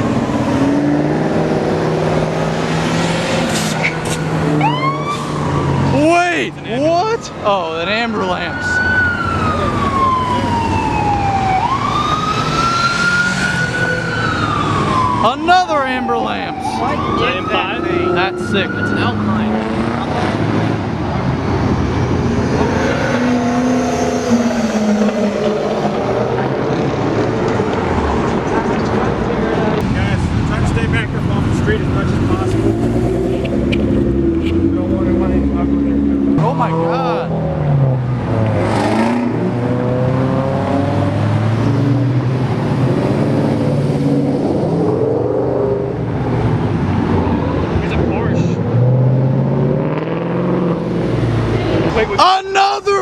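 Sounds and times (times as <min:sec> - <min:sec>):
cars driving by: 0:00.0 - 0:53.0.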